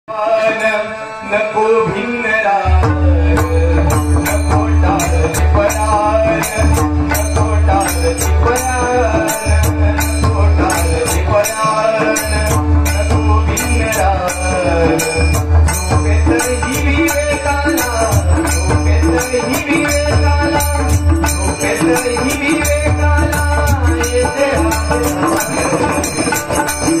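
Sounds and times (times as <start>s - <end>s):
man singing: 0.1s - 27.0s
hand drums: 2.8s - 27.0s
hand cymbals clashing: 3.9s - 27.0s.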